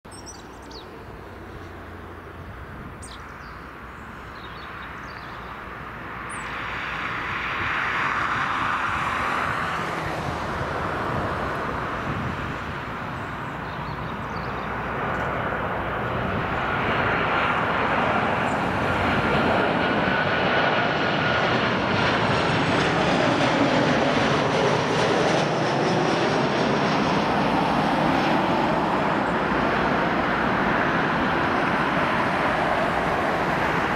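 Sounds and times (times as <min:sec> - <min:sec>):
jet engines on landing pass: 0:00.1 - 0:33.9.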